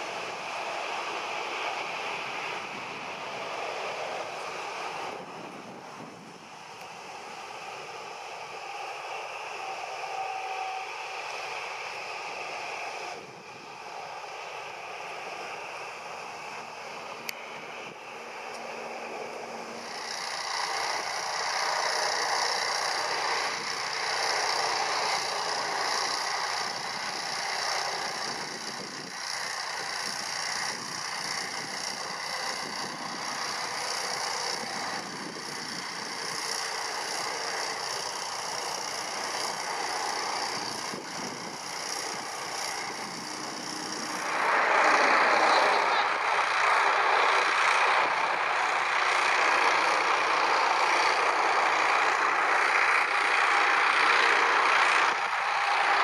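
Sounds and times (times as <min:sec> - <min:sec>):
rushing jet engine: 0:00.0 - 0:56.0.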